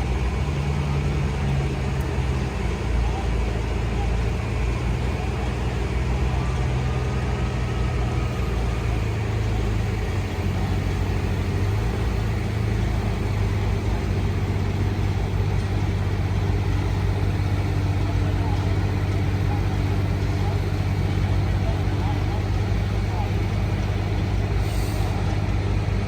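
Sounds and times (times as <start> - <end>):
large engine idling: 0.0 - 26.0.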